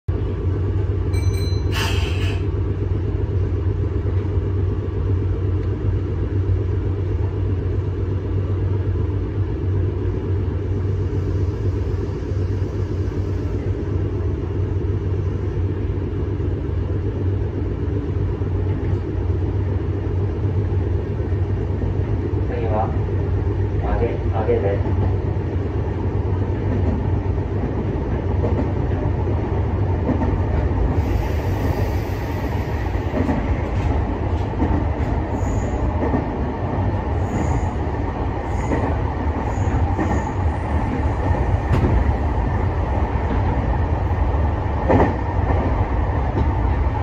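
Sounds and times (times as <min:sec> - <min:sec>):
train wheels rumbling: 0:00.1 - 0:47.0.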